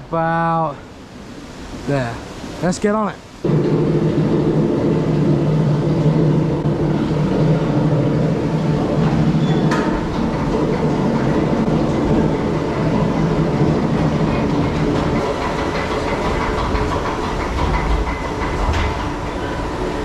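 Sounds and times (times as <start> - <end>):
ride machinery rumbling and clattering: 0.0 - 20.0.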